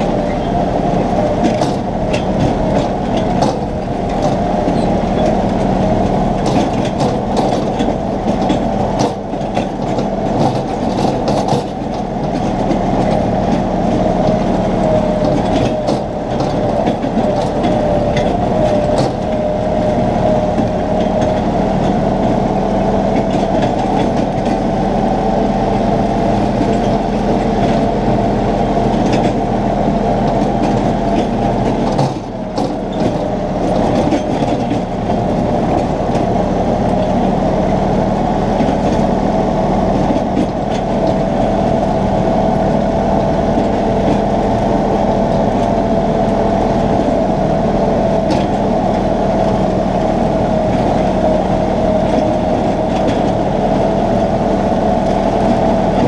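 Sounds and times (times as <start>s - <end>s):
tractor engine droning with whine: 0.0s - 56.0s.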